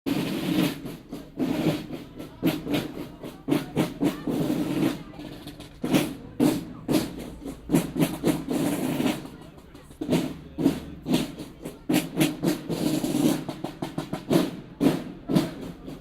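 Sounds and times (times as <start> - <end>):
marching band drumming: 0.1 - 16.0.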